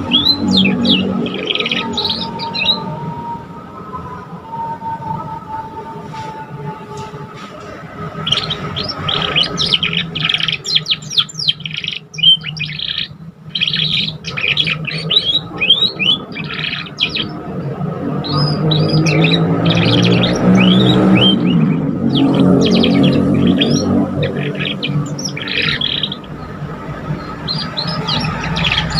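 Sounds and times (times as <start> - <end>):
canary singing: 0.0 - 4.8, 5.5 - 28.9
low layered humming tone: 0.0 - 28.9.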